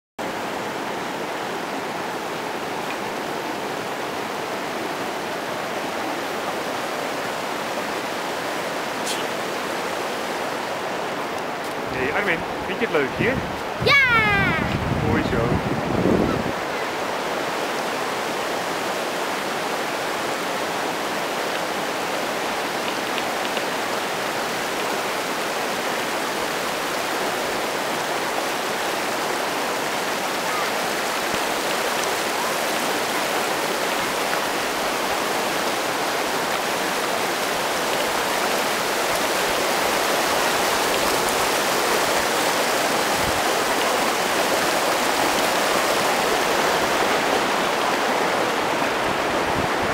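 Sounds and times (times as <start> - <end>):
stream rushing over boulders: 0.2 - 49.9.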